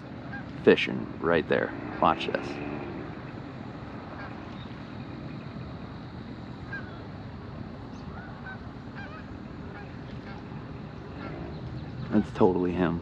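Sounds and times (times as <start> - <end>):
distant geese honking: 0.0 - 13.0
low background noise: 0.0 - 13.0.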